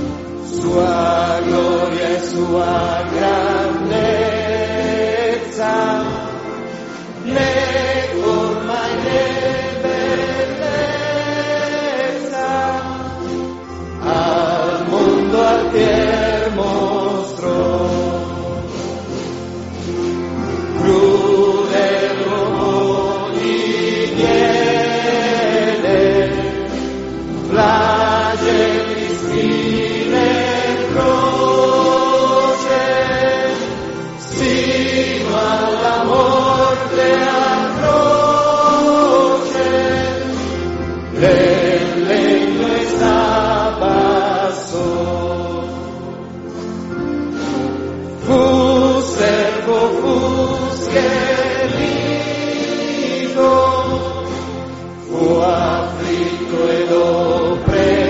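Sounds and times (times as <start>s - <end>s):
congregation singing a hymn: 0.0s - 58.0s
low instrumental accompaniment: 0.0s - 58.0s.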